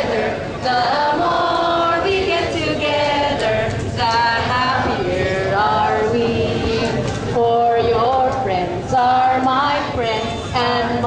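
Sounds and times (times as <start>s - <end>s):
group of voices singing: 0.0s - 11.0s
woman singing into microphone: 0.0s - 11.0s.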